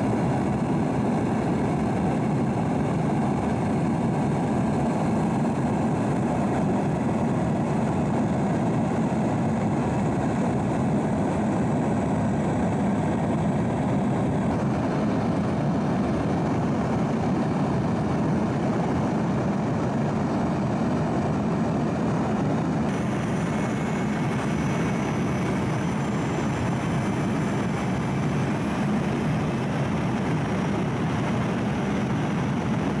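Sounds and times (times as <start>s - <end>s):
aircraft engines droning in cabin: 0.0s - 33.0s.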